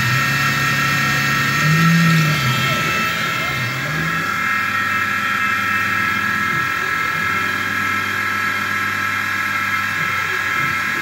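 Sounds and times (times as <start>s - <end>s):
milling machine whine: 0.0s - 11.0s.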